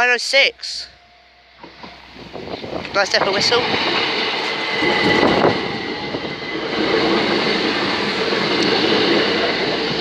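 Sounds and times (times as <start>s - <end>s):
train wheels rumbling on rails: 1.5s - 10.0s.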